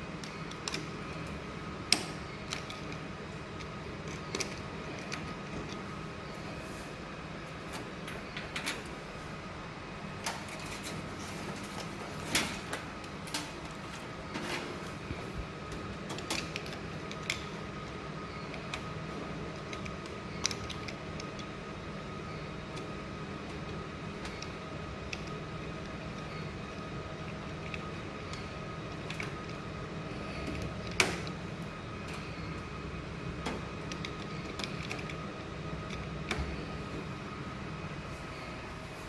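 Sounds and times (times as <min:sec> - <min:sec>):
low hum with thin whine: 0:00.0 - 0:39.0.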